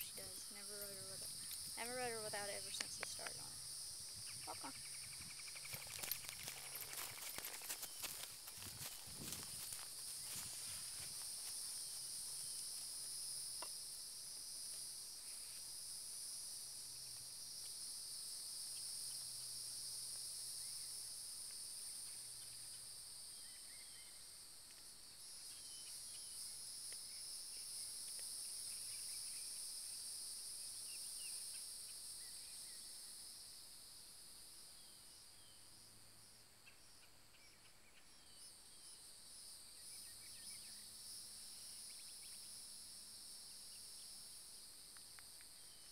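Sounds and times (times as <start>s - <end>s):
insect chorus buzzing: 0.0s - 45.9s.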